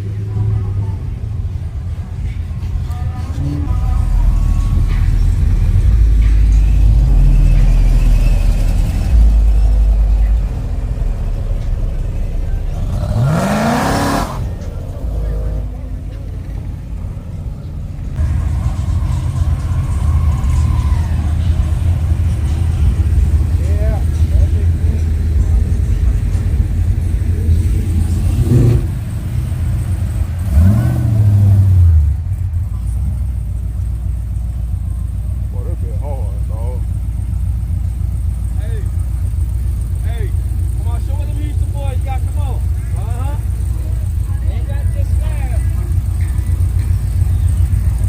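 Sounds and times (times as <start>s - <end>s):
car engine revving: 2.4s - 48.0s.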